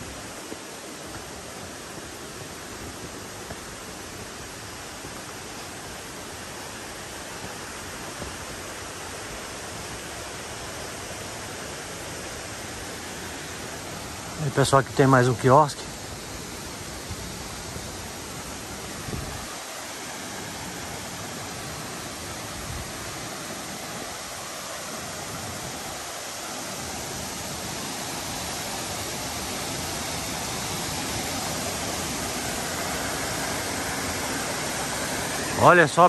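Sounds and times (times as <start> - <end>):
waterfall and creek rushing: 0.0 - 36.0.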